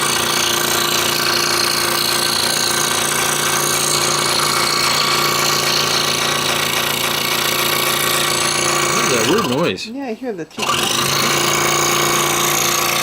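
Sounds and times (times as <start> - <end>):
scroll saw cutting wood: 0.0 - 9.8, 10.6 - 13.0.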